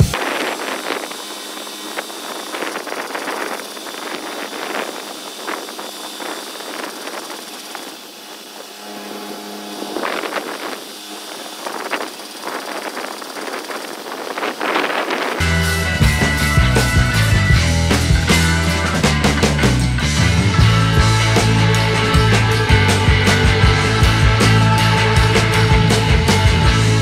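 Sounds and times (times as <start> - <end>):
diesel engine running: 0.0 - 27.0
pitched hum: 0.0 - 27.0.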